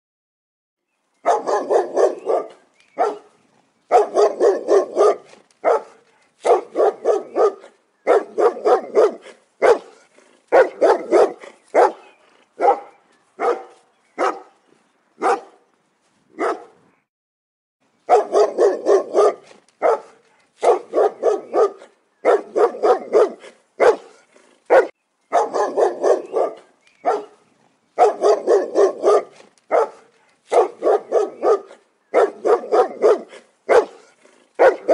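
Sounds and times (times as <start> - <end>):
large dog barking aggressively: 1.2 - 14.6, 15.2 - 15.7, 16.4 - 16.8, 18.1 - 27.4, 28.0 - 34.9.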